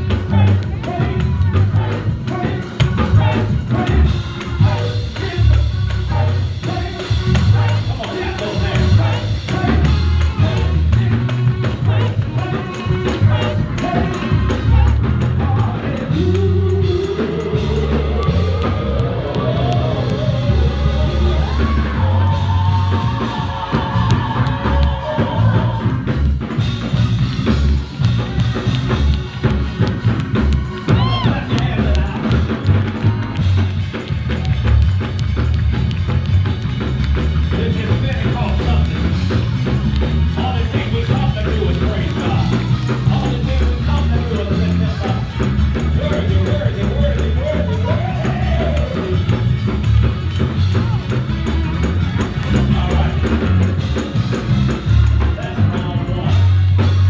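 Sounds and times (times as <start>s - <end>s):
voices singing: 0.0s - 34.5s, 37.5s - 57.0s
drum kit beat: 0.0s - 57.0s
live band music: 0.0s - 57.0s.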